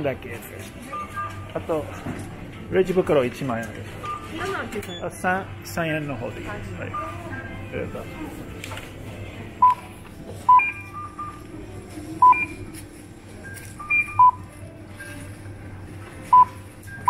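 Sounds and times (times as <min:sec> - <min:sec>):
checkout scanner beeping: 0:00.0 - 0:17.0.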